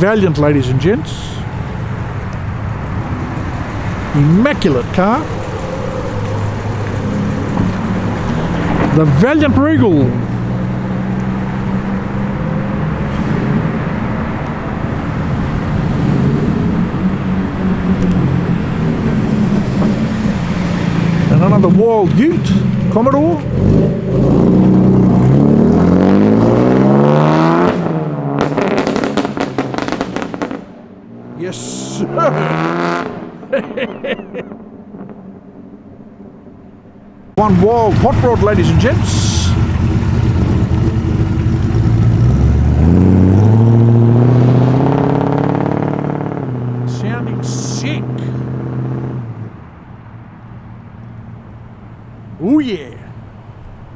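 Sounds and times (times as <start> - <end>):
car engine running at low revs: 0.0 - 30.6, 36.3 - 53.9.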